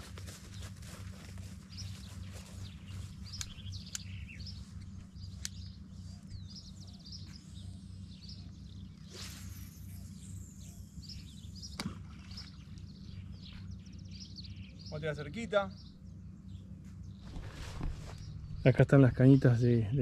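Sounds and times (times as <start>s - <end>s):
steady low hum: 0.0s - 20.0s
birds chirping and calling: 0.3s - 20.0s.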